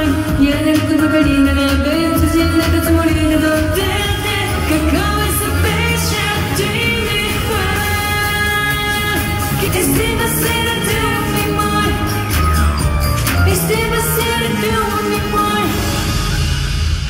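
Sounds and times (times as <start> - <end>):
pop song with lead vocal: 0.0 - 17.0.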